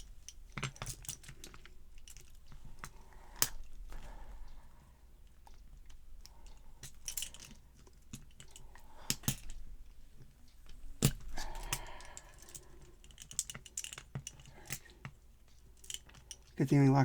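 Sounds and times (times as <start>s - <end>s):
metal tools clicking on padlock: 0.0s - 4.5s, 5.2s - 16.6s.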